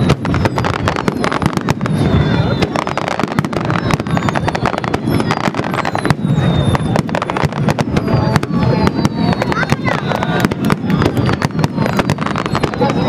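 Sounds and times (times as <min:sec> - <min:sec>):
faint firework whistles: 0:00.0 - 0:13.0
fireworks crackling: 0:00.0 - 0:13.0.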